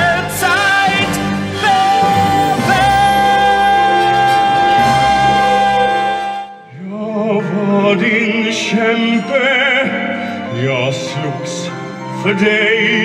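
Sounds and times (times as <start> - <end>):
man singing operatically: 0.0 - 13.0.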